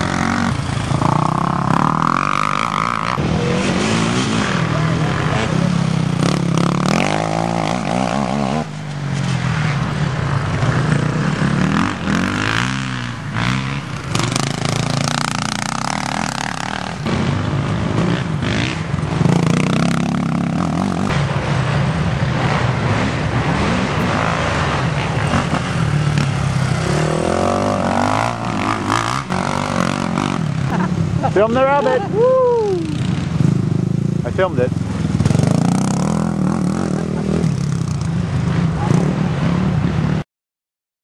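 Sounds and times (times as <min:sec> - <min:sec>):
quad engines revving: 0:00.0 - 0:21.2, 0:22.4 - 0:39.6.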